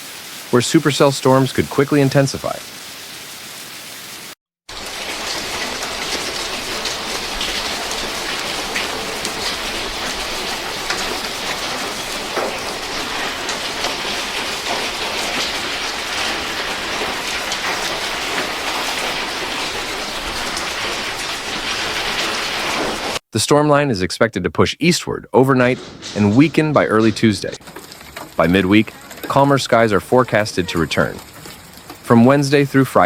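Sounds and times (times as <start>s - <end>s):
heavy rain on hard surface: 0.0s - 23.2s, 25.8s - 33.0s.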